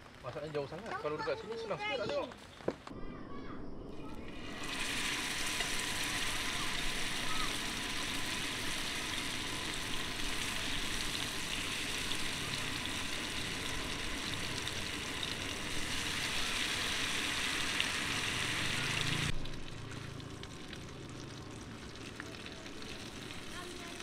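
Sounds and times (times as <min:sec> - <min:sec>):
food sizzling in a pan: 0:04.1 - 0:24.0.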